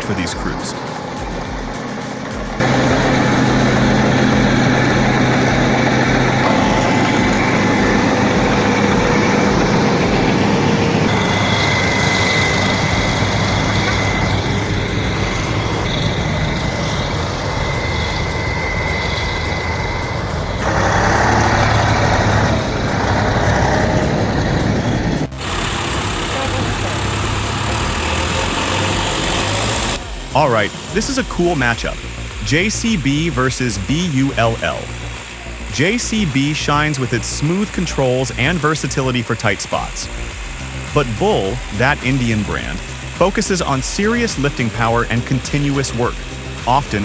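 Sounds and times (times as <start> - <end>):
heavy diesel machinery running: 0.0 - 47.0
high whine: 0.0 - 47.0.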